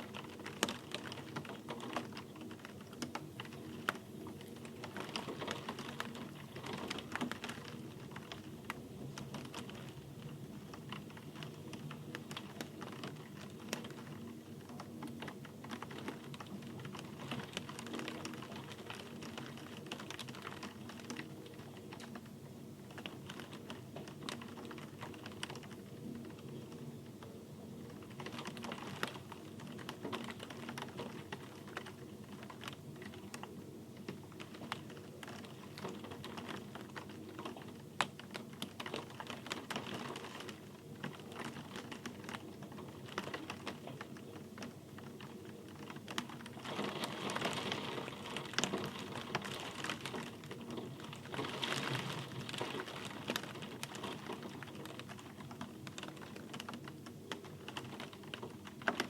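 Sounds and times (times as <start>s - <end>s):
rain drops on hard surface: 0.0s - 59.0s.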